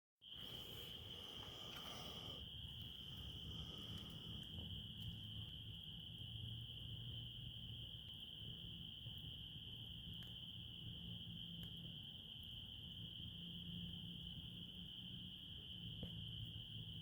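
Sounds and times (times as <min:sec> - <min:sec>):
crickets trilling: 0:00.2 - 0:17.0.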